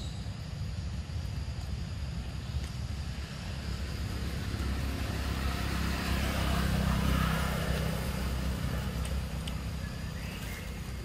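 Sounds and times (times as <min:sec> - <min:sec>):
passing vehicle engine rumble: 0:00.3 - 0:11.0.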